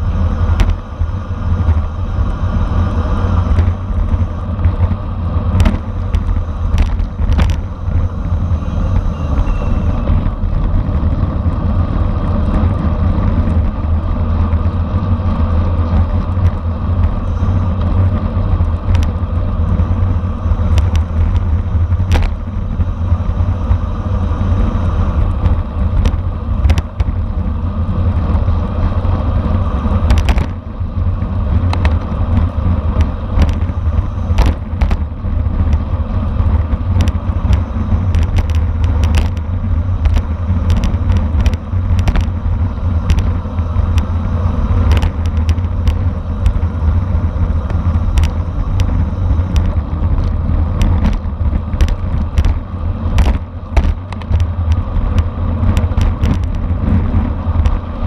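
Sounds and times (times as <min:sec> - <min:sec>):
bike clicks and rattles: 0:00.0 - 0:58.0
wind rushing over microphone: 0:00.0 - 0:58.0.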